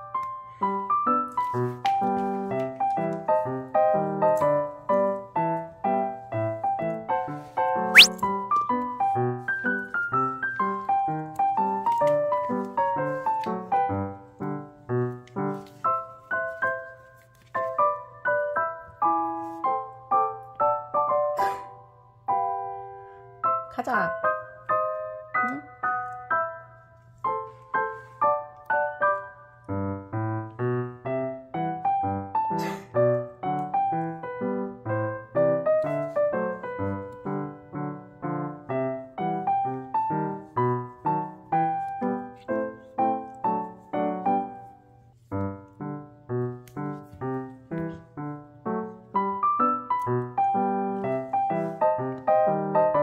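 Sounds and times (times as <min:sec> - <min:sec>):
gentle piano notes: 0:00.0 - 0:53.0.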